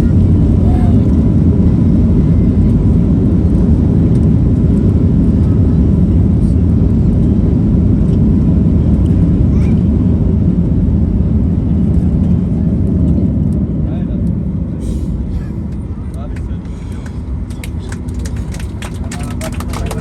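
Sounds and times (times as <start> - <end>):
airplane cabin engine noise: 0.0 - 20.0.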